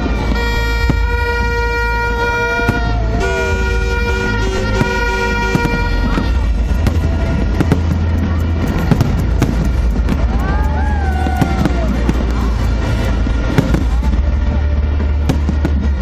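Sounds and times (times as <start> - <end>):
crowd voices: 0.0 - 16.0
fireworks bangs and crackles: 0.0 - 16.0
low rumble: 0.0 - 16.0
music: 0.0 - 16.0.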